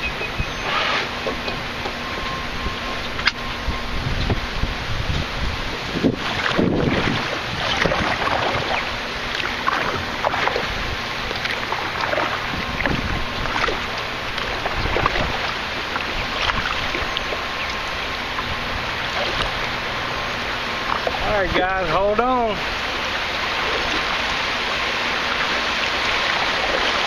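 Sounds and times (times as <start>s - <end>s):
wind rumble on microphone: 0.0s - 21.8s
river water rushing and splashing: 0.0s - 27.0s.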